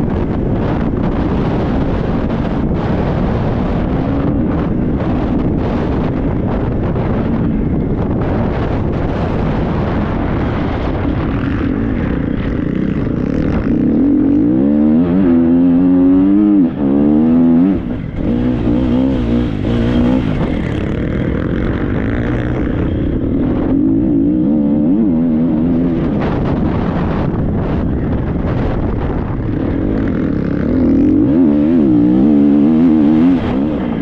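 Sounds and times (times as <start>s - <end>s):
motorcycle engine revving: 0.0s - 34.0s
wind noise on microphone: 0.0s - 34.0s.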